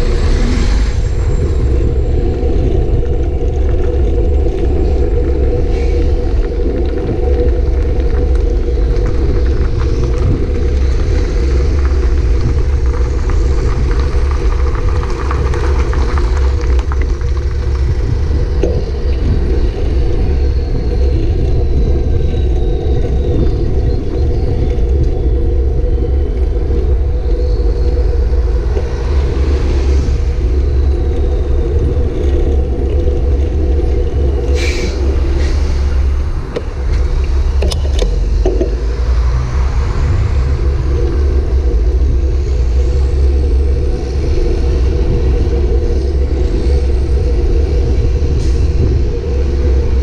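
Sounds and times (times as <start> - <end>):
road and traffic noise: 0.0 - 50.0
wind buffeting microphone: 0.0 - 50.0.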